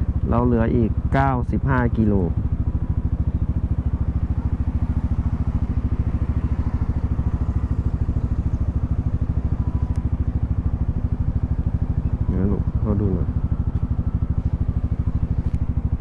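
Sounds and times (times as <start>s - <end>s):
scooter engine droning: 0.0s - 16.0s.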